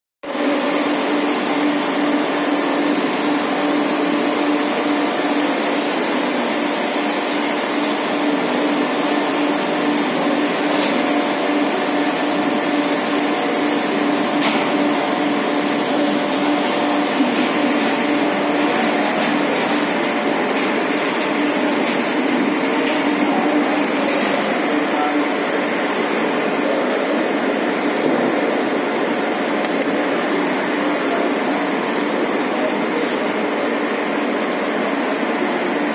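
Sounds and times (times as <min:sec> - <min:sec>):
parts-washing machine whirring: 0:00.2 - 0:35.9.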